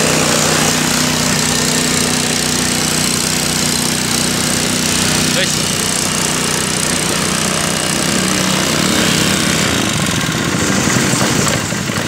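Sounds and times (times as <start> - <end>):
water pump engine running: 0.0 - 12.0.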